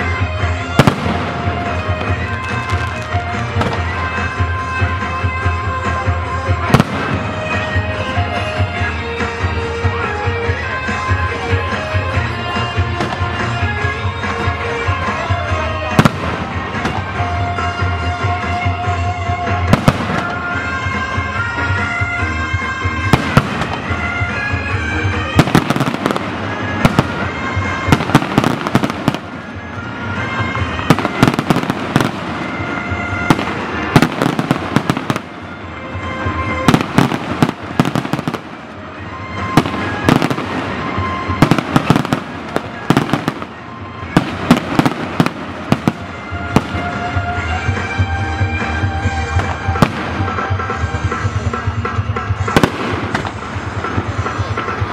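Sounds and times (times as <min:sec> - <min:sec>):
fireworks bursting and crackling: 0:00.0 - 0:54.9
music with stepping melody: 0:00.0 - 0:54.9.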